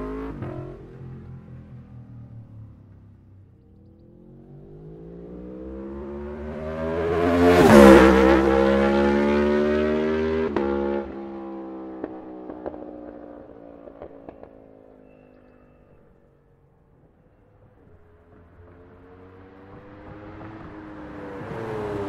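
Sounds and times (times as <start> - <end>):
motorcycle engine passing by: 0.0 - 22.0.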